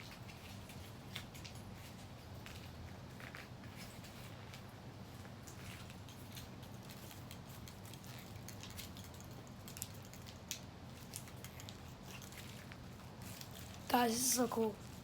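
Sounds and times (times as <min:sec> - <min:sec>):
phone parts clicking and scratching: 0:00.0 - 0:13.9.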